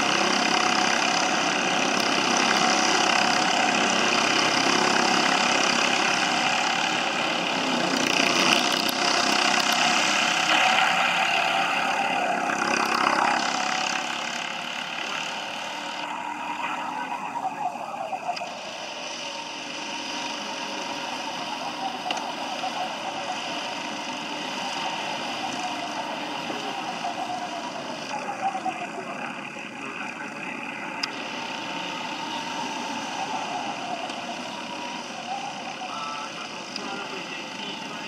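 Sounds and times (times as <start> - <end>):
distant kart engines buzzing: 0.0 - 38.0.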